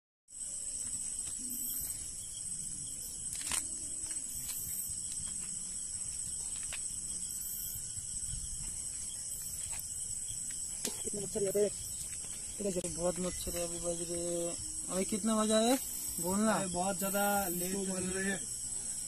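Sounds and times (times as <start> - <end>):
night insects chirping: 0.3 - 19.0.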